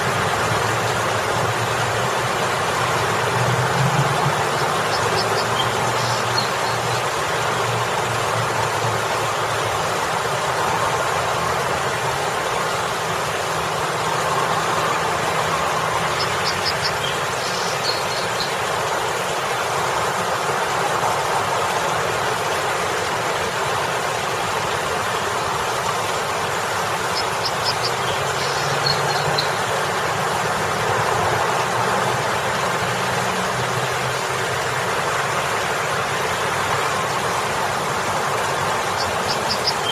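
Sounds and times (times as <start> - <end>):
fountain water splashing: 0.0 - 39.9
road traffic hum: 0.0 - 39.9.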